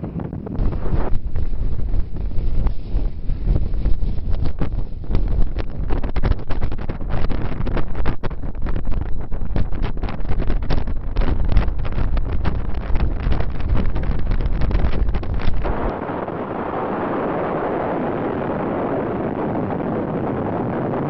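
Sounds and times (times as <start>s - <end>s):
steady rushing noise: 0.0s - 21.0s
wind buffeting microphone: 0.0s - 21.0s.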